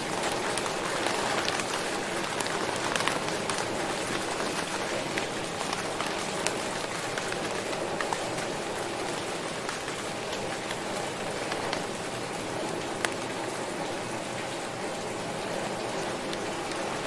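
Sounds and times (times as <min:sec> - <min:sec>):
raindrops ticking: 0:00.0 - 0:17.0
steady rainfall: 0:00.0 - 0:17.0.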